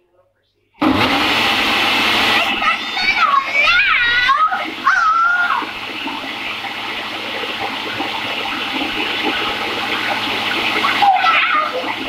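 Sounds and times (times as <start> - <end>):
blender motor whirring: 0.8 - 12.0.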